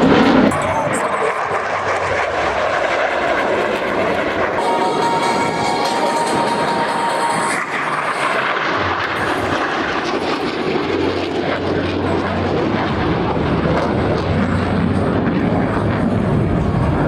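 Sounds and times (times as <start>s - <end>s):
airplane engine rush: 0.0s - 17.0s
low hum: 0.0s - 17.0s.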